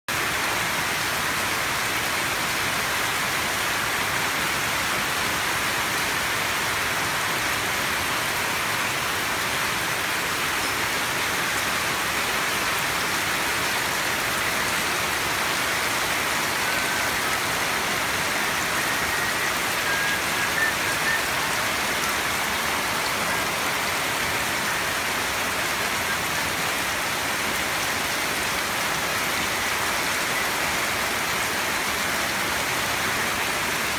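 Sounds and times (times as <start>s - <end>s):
rushing water like rain: 0.1s - 33.9s.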